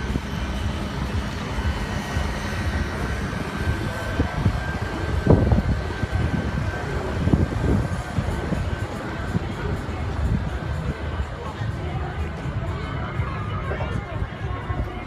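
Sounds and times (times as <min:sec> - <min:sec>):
engines rumbling: 0:00.0 - 0:15.0
faint steady whine: 0:00.0 - 0:15.0
low bursts: 0:00.0 - 0:15.0.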